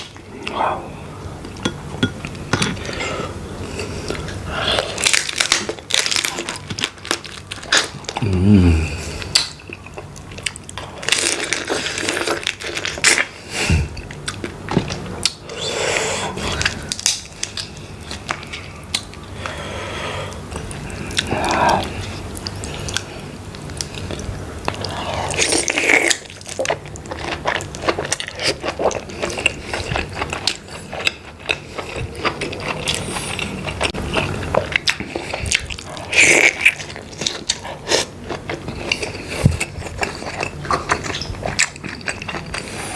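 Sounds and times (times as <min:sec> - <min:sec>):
person chewing shellfish: 0:00.0 - 0:42.9.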